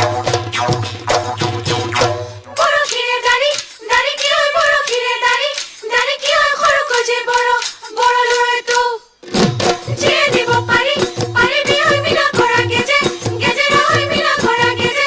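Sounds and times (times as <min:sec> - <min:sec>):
high voices singing in unison: 0:00.0 - 0:09.2, 0:09.8 - 0:15.0.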